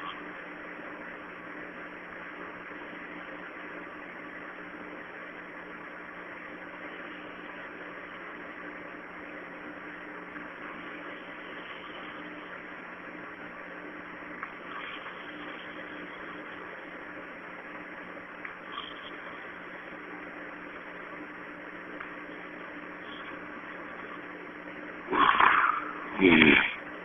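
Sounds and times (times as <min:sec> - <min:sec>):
steady background hum with hiss: 0:00.0 - 0:27.0.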